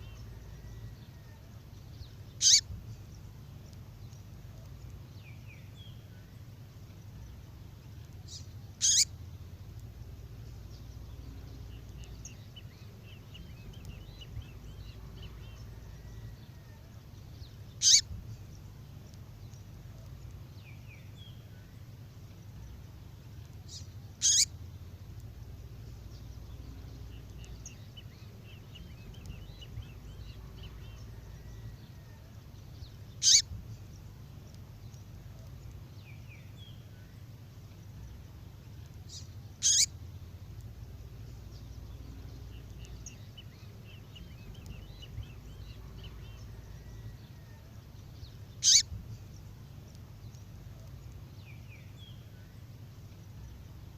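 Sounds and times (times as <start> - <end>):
faint bird twittering: 0.0 - 53.9
steady low hum: 0.0 - 53.9.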